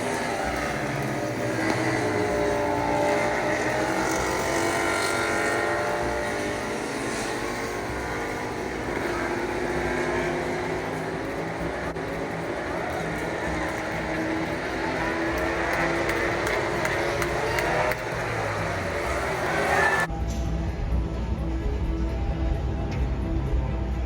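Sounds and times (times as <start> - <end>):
racing motorcycles passing: 0.0 - 20.1.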